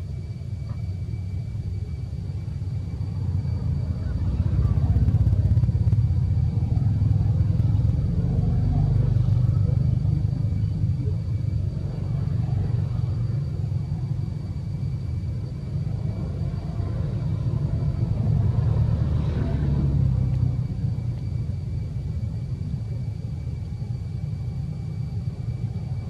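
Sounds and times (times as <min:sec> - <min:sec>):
faint high steady tone: 0:00.0 - 0:26.0
loud low rumble: 0:02.2 - 0:26.0.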